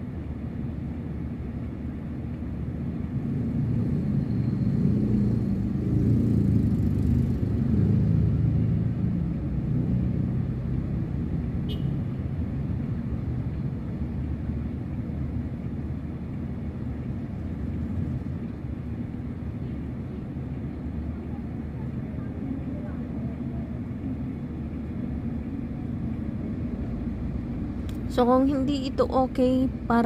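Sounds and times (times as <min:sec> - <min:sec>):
low vehicle rumble: 0:00.0 - 0:30.0.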